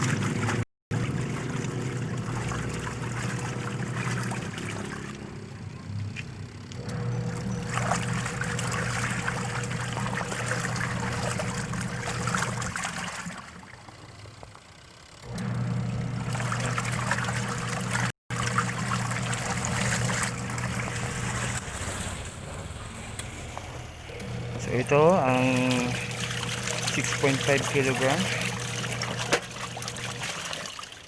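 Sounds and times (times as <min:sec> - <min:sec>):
water sloshing: 0:00.0 - 0:15.4, 0:16.2 - 0:31.0
washing machine motor hum: 0:00.0 - 0:31.0.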